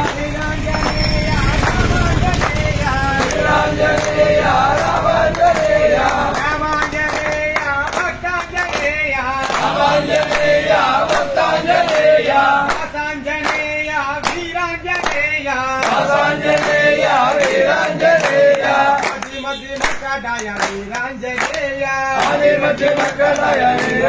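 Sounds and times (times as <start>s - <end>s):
group singing in chorus: 0.0s - 19.5s, 20.7s - 24.0s
hand claps: 0.0s - 24.0s.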